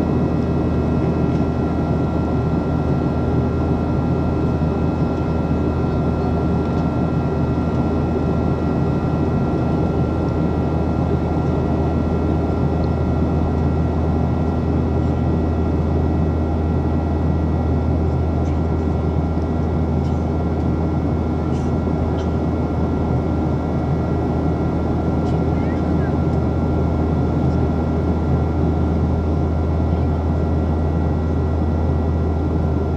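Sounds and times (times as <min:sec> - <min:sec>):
jet engine drone: 0:00.0 - 0:32.9.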